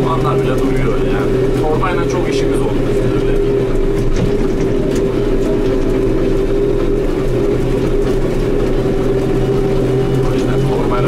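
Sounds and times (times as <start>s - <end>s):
steady whine: 0.0s - 11.0s
tractor engine drone: 0.0s - 11.0s.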